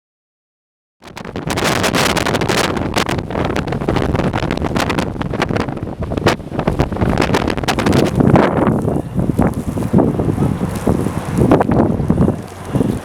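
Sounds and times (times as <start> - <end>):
blizzard wind buffeting microphone: 1.0 - 13.0.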